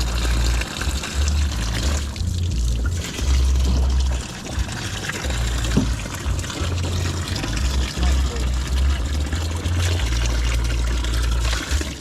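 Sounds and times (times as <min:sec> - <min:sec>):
water running and splashing: 0:00.0 - 0:12.0.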